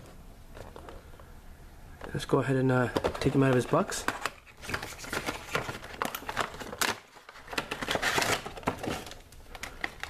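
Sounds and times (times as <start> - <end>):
plastic and cardboard crinkling: 0.0 - 1.3, 2.0 - 10.0.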